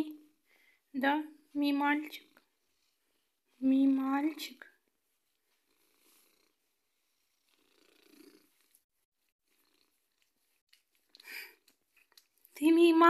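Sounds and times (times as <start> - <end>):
cat purring: 1.4 - 12.4.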